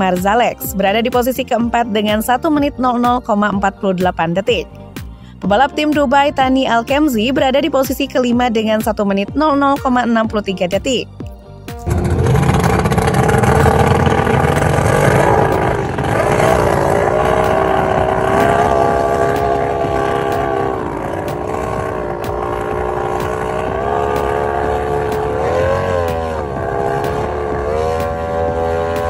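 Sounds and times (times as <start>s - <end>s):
outboard boat engines revving: 0.0s - 29.0s.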